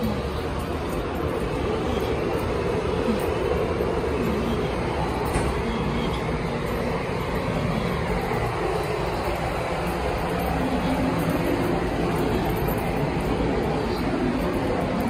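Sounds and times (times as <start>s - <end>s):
heavy city traffic rumble: 0.0s - 15.0s.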